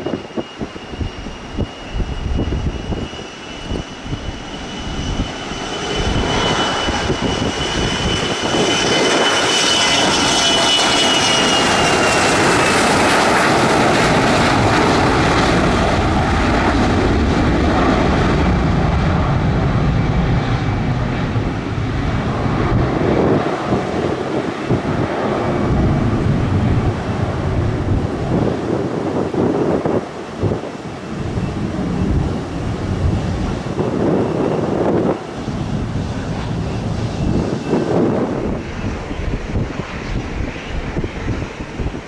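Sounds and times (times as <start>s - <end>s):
jet engines roaring with high whine: 0.0s - 42.0s
wind buffeting microphone: 0.0s - 42.0s.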